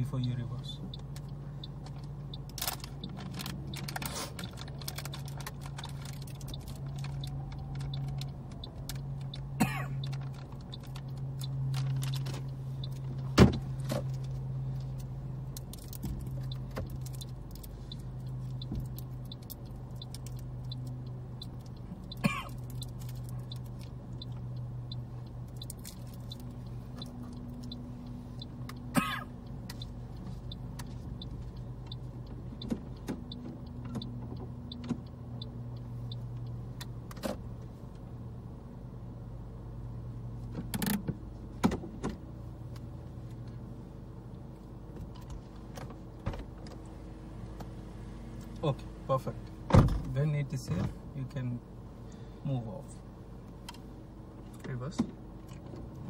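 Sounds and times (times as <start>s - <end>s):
car engine running at low speed: 0.0s - 56.0s.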